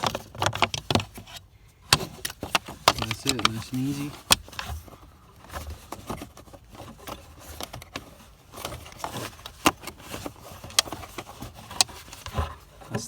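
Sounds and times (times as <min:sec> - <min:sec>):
plastic clicks and scrapes: 0:00.0 - 0:13.0.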